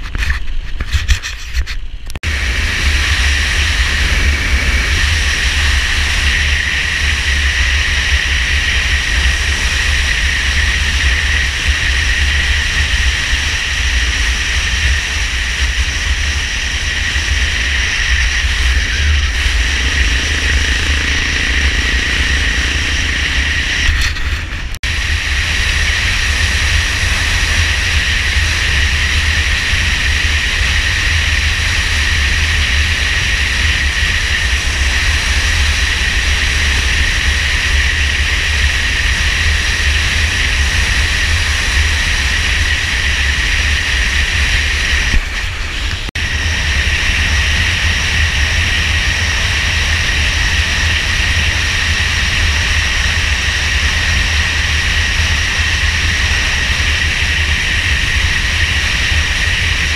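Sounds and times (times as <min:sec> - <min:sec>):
motorcycle engine and tyre noise: 0:00.0 - 0:59.9
wind buffeting camera: 0:00.0 - 0:59.9.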